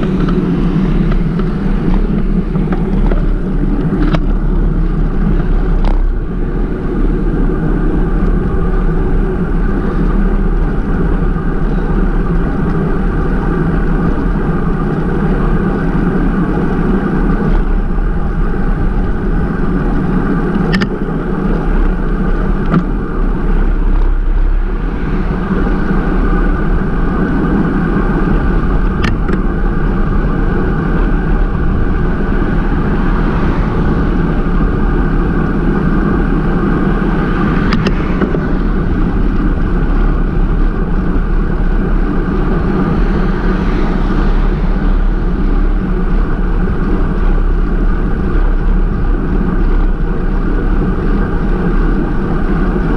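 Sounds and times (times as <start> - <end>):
road rumble: 0.0 - 52.9
wind noise: 0.0 - 52.9.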